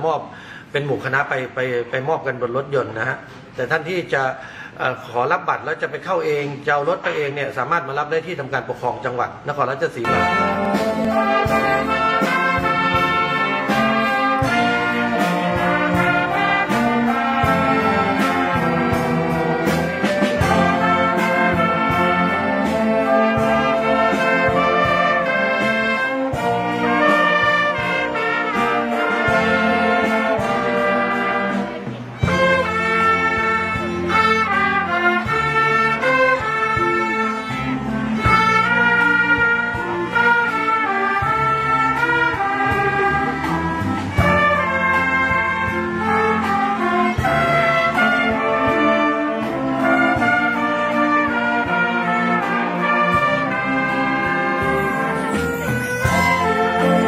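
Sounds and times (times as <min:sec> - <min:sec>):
orchestra playing: 0:09.6 - 0:57.0.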